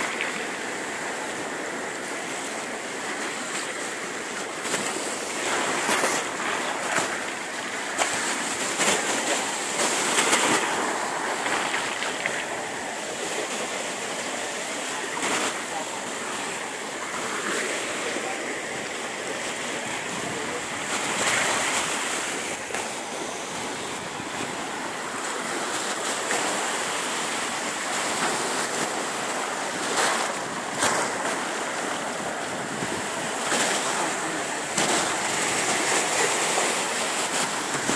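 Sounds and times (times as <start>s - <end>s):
waves washing onto pebble beach: 0.0s - 37.9s.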